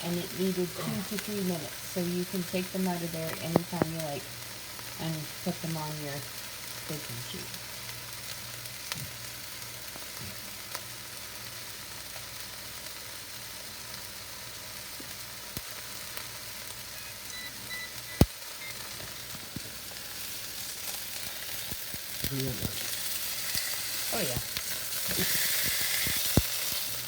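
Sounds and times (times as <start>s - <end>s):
chicken sizzling in frying pan: 0.0s - 27.0s.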